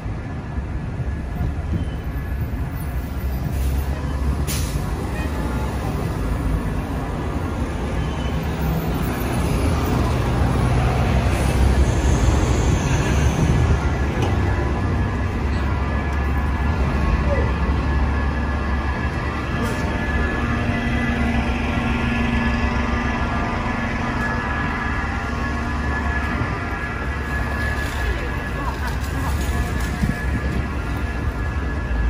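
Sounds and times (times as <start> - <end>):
city traffic rumble: 0.0 - 32.0.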